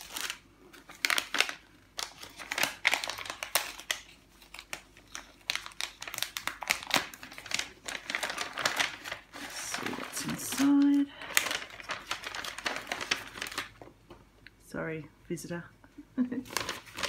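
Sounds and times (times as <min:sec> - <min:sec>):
paper envelope rustling: 0:00.0 - 0:13.9, 0:16.4 - 0:17.0.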